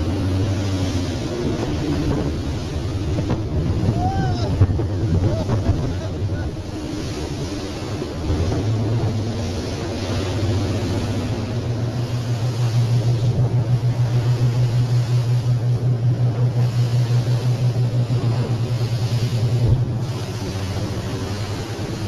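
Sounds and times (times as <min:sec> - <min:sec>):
boat engine droning: 0:00.0 - 0:22.0
wind and water hissing: 0:00.0 - 0:22.0.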